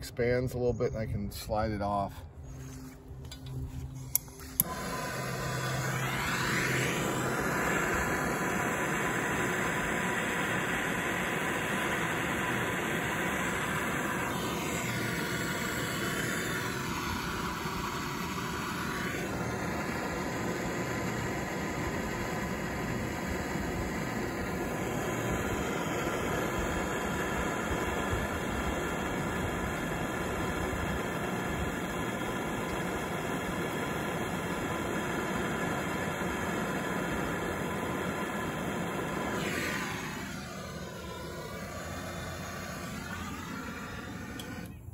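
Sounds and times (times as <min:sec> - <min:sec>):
gas torch flame hissing: 0:04.0 - 0:44.9.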